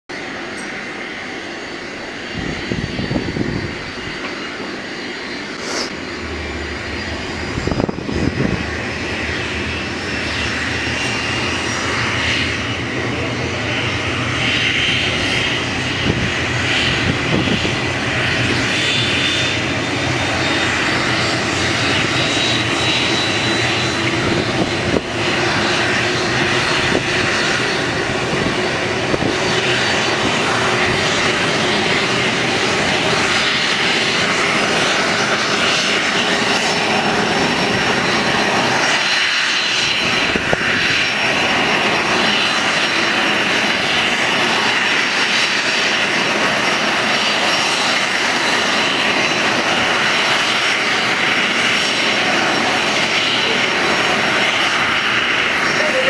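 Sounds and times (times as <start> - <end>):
jet engines whining: 0.1 - 56.0.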